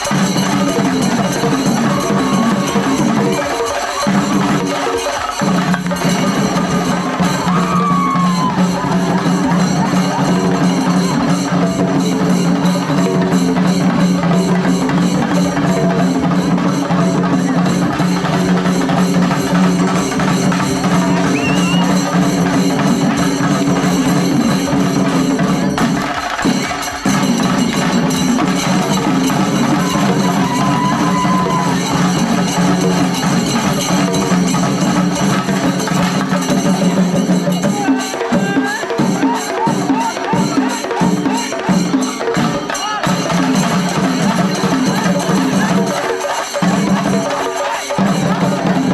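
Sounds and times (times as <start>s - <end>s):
fast dense drumming: 0.0s - 48.9s.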